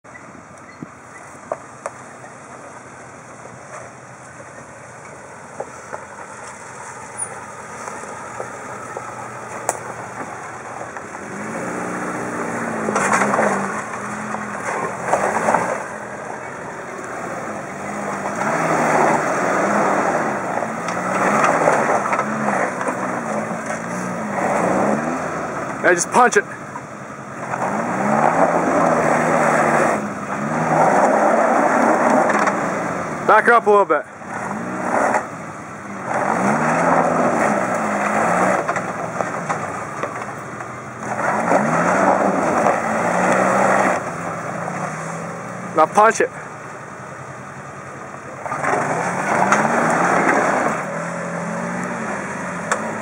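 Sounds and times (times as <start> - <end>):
engine revving: 7.2 - 26.6, 27.2 - 46.5, 47.6 - 53.0.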